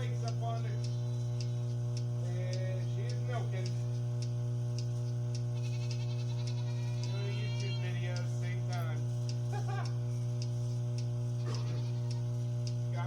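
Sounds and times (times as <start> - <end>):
milking machine motor hum: 0.0 - 13.0
pulsator clicking: 0.0 - 13.0.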